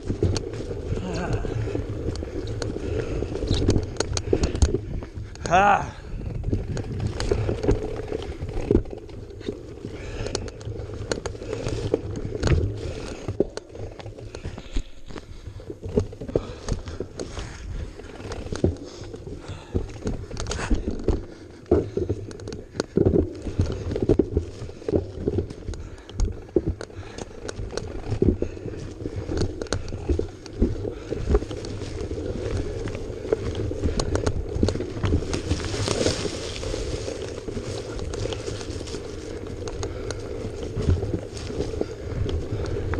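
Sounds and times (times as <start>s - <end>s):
knocks and rattles over rocky ground: 0.0s - 42.9s.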